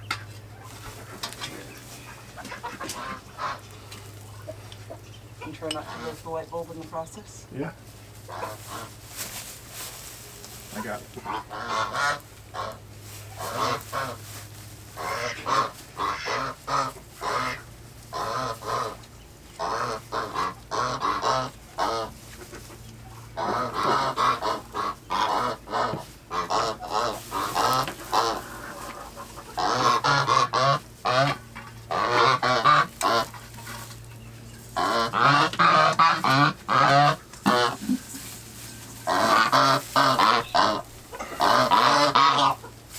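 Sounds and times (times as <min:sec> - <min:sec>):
waterfowl honking: 0:00.1 - 0:07.3, 0:08.2 - 0:09.4, 0:10.5 - 0:42.9.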